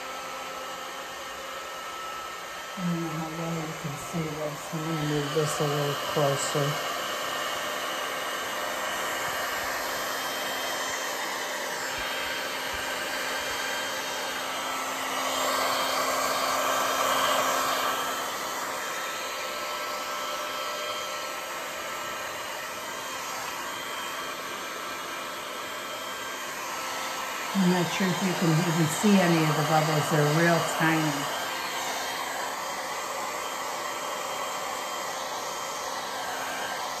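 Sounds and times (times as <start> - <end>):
heat gun blowing: 0.0 - 37.0.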